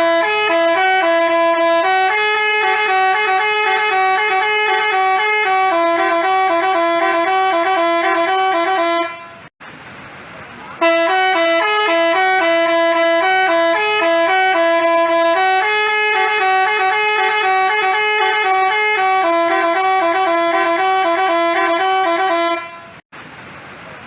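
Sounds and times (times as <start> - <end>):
bus horn playing a tune: 0.0 - 9.5, 10.8 - 23.0.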